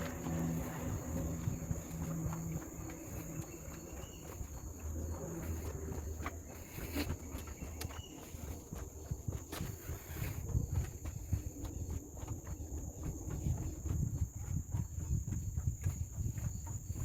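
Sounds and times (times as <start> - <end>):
forest insects droning: 0.0 - 17.0
low rumble: 0.0 - 17.0.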